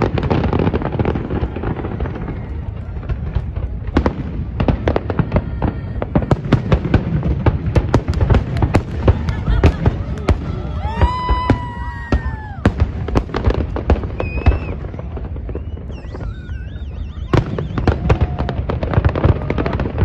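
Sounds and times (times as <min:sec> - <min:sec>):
fireworks bangs and crackling: 0:00.0 - 0:20.0
whistling fireworks: 0:00.0 - 0:20.0.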